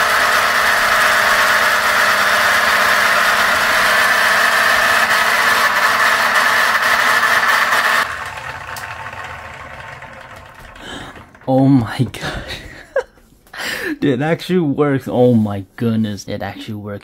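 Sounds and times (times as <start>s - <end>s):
blower whirring: 0.0s - 13.9s.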